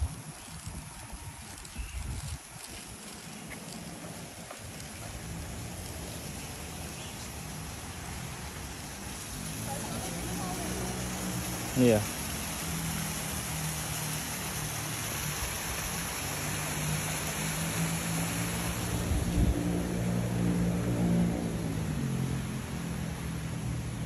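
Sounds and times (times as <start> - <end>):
low motor hum: 0.0 - 24.0
outdoor background hiss: 0.0 - 24.0.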